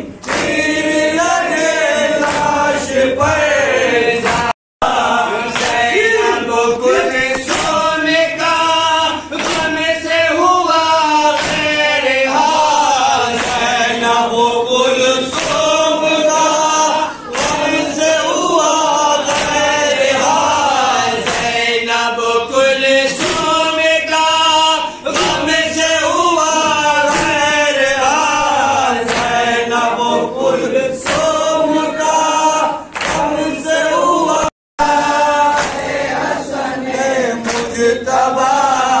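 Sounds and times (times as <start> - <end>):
men chanting through loudspeakers: 0.0 - 39.0
rhythmic chest-beating: 0.0 - 39.0.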